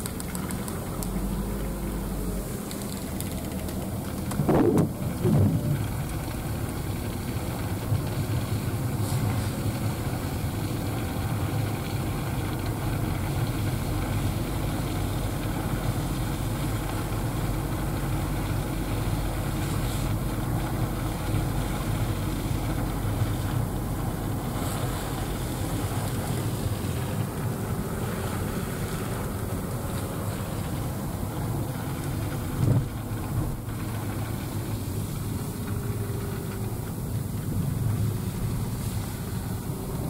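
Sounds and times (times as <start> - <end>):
car engine and tyres rumbling: 0.0 - 40.0.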